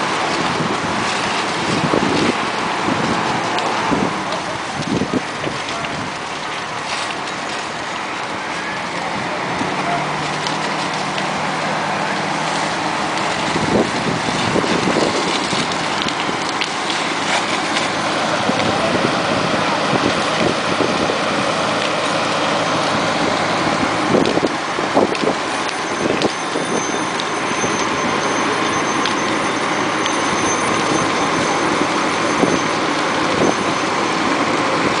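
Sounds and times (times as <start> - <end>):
fire engine pump running: 0.0 - 35.0
hose spraying water: 0.0 - 35.0.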